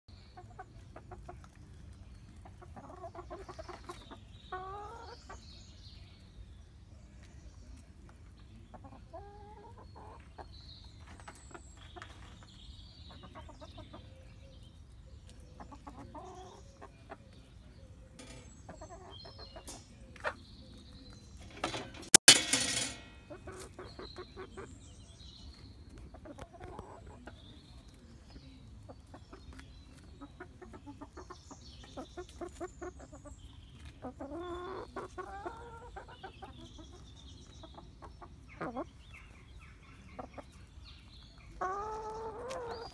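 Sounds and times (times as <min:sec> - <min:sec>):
hens clucking: 0:00.2 - 0:05.8, 0:07.7 - 0:22.2, 0:23.0 - 0:42.9.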